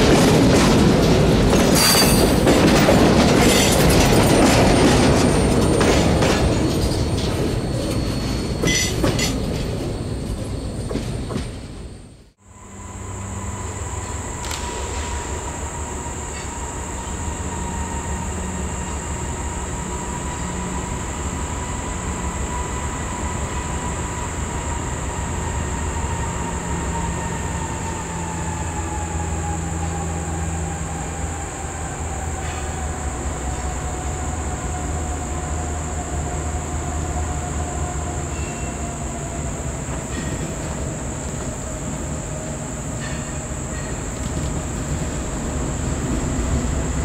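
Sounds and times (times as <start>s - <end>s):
freight train rumbling: 0.0s - 47.0s.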